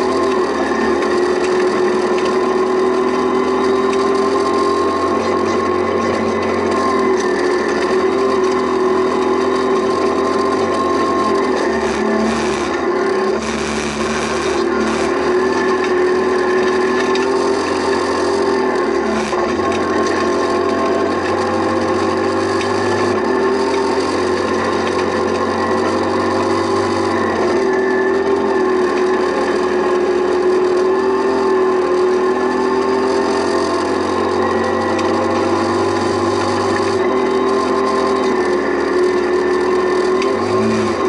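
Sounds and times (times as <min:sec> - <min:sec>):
gravel rattling under car: 0:00.0 - 0:41.0
rally car engine at high revs: 0:00.0 - 0:41.0.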